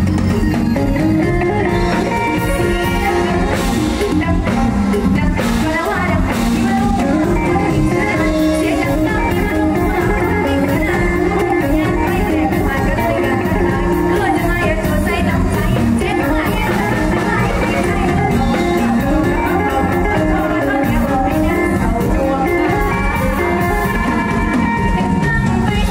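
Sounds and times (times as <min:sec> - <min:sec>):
drum kit: 0:00.0 - 0:25.9
electric guitar: 0:00.0 - 0:25.9
girl singing into microphone: 0:02.3 - 0:25.9.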